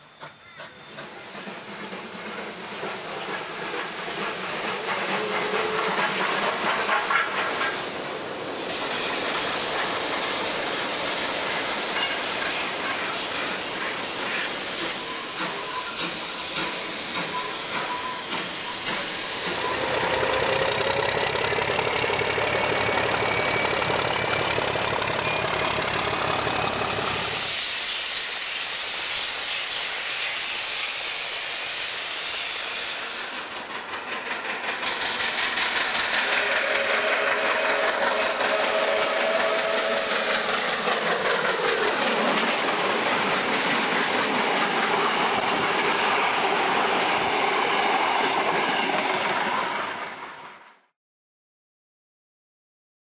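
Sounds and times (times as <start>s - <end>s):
steam hissing: 0.1s - 49.4s.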